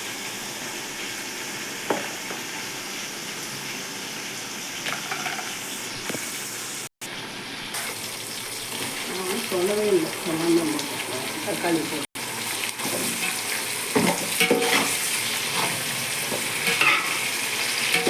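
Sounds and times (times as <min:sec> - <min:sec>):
spices sizzling in hot oil: 0:00.0 - 0:18.0.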